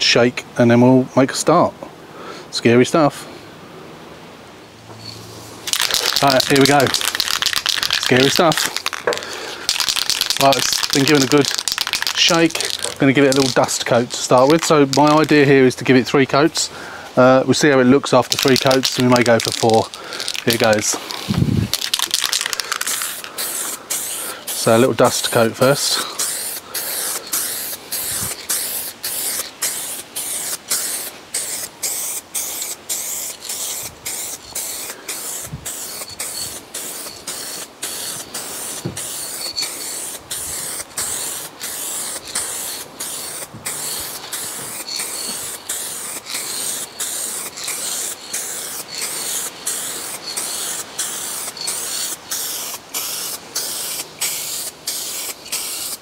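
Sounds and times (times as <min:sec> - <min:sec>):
aerosol can spraying: 0:05.0 - 0:15.6, 0:18.1 - 0:56.0.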